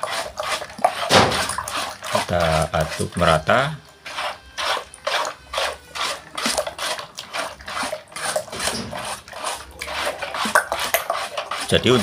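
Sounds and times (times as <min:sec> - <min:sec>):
spatula scraping sauce in wok: 0:00.0 - 0:12.0.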